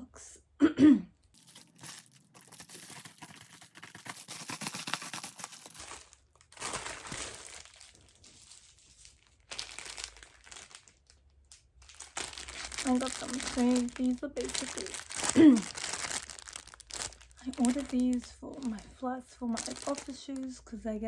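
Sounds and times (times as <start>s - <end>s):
packaging crinkling: 1.2s - 20.6s.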